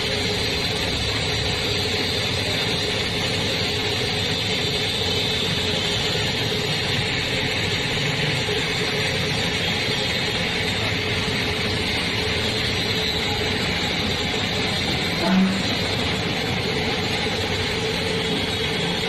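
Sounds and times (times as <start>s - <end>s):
machine hum with hiss: 0.0s - 19.0s.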